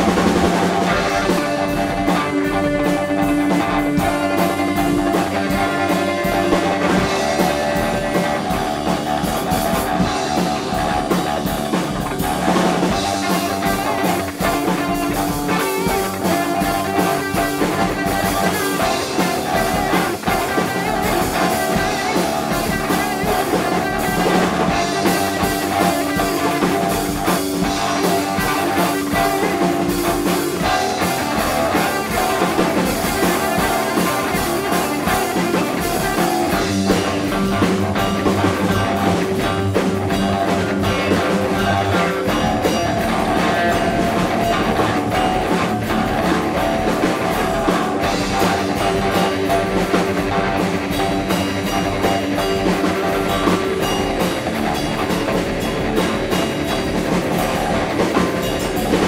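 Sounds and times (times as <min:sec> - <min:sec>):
drum kit: 0:00.0 - 0:59.0
electric guitars playing rock: 0:00.0 - 0:59.0.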